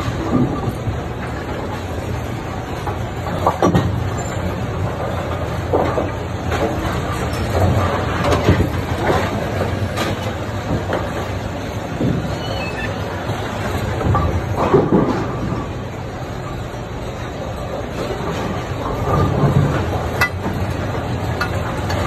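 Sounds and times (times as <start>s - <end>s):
low mechanical hum: 0.0s - 22.0s
machinery clanks and knocks: 0.0s - 22.0s.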